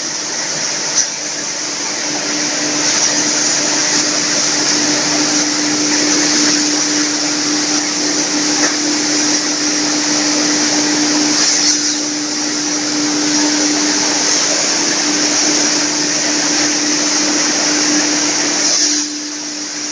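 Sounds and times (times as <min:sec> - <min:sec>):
constant hum: 0:00.0 - 0:19.9
hammer mill grinding: 0:00.0 - 0:19.9.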